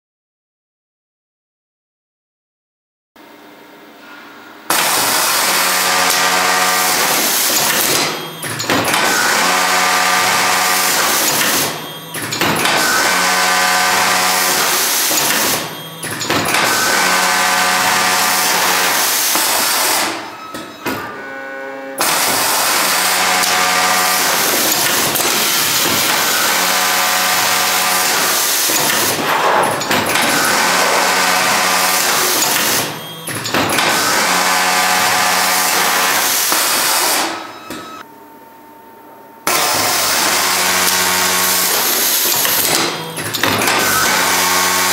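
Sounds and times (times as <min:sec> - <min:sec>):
overlock sewing machine sewing: 0:04.7 - 0:20.3, 0:22.0 - 0:37.4, 0:39.5 - 0:44.9.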